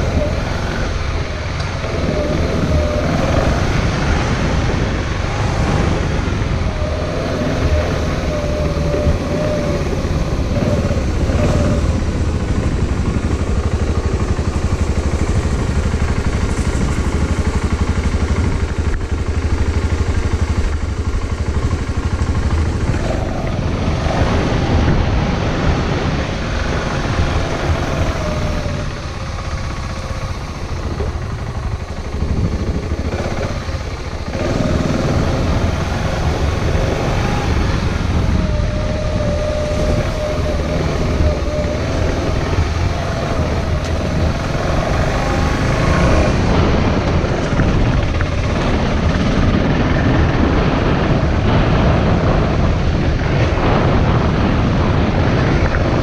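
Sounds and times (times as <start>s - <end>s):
bicycle tyres rumbling: 0.0s - 56.0s
wind buffeting microphone: 0.0s - 56.0s.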